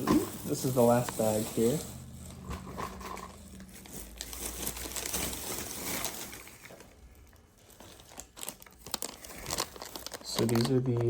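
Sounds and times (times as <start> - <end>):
packaging bag rustling: 0.0 - 11.0.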